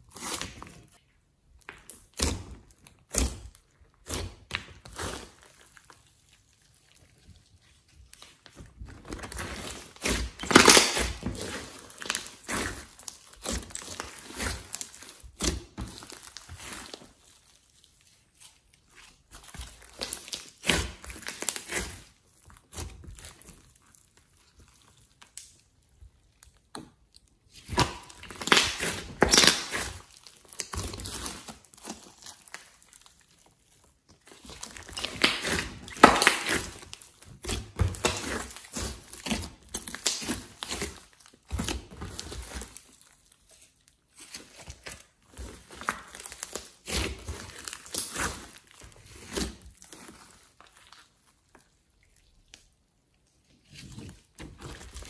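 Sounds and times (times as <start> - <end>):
slime squishing and crackling: 0.0 - 55.0.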